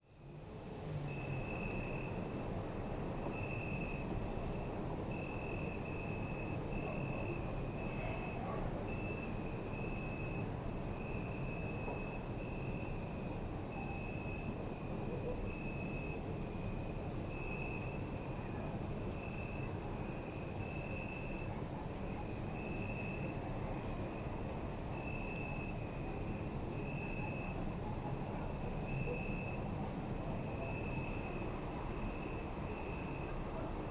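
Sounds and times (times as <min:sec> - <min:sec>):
lower cricket chirping: 0:00.0 - 0:33.9
high cricket trill: 0:00.2 - 0:33.9.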